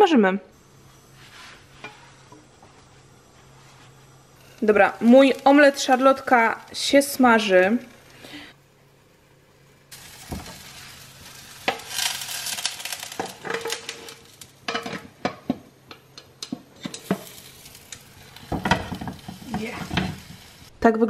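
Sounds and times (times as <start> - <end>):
omelette sizzling in a pan: 0.6 - 20.8.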